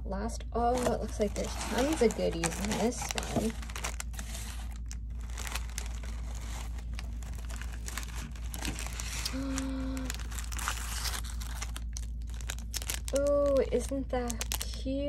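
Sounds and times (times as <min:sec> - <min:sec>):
plastic bag crinkling: 0:00.6 - 0:15.0.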